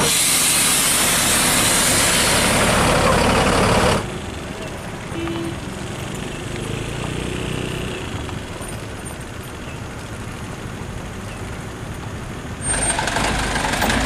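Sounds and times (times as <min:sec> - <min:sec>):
vehicle engines running slowly: 0:00.5 - 0:14.0.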